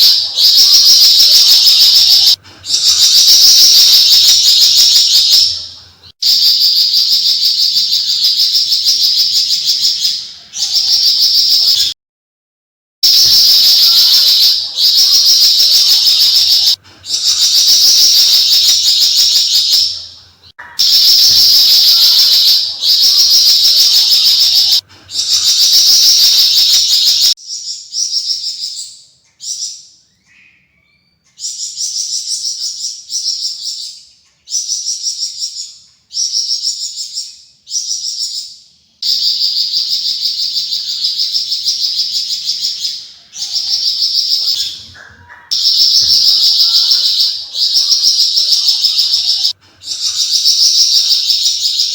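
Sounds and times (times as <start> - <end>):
bird high-pitched chattering song: 0.0 - 11.9, 13.0 - 51.9.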